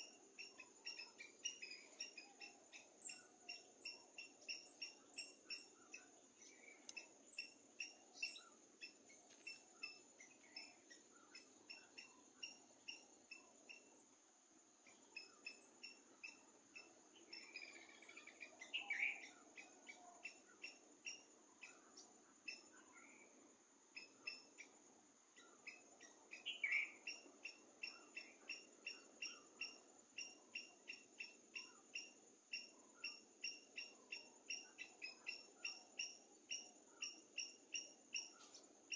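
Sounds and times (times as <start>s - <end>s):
bird calls: 0.0s - 14.1s, 14.9s - 23.2s, 25.4s - 38.7s.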